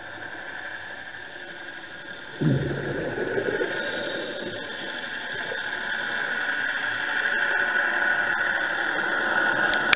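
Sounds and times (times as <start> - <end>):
underwater hiss: 0.0 - 9.6.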